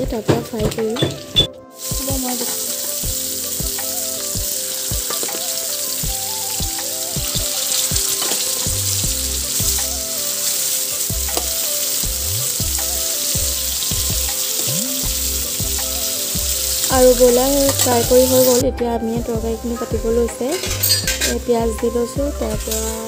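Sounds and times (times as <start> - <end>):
chicken sizzling in hot oil: 0.0 - 18.6.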